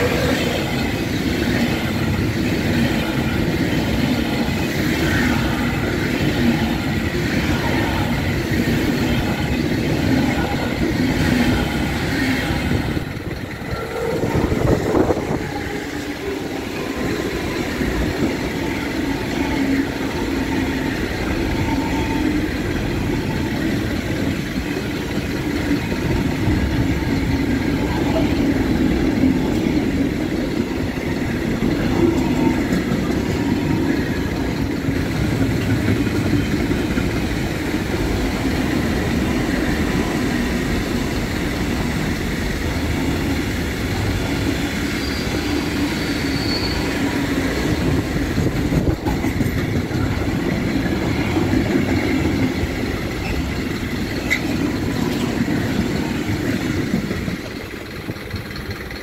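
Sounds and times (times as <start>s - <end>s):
freight train wagons rolling past: 0.0s - 59.0s.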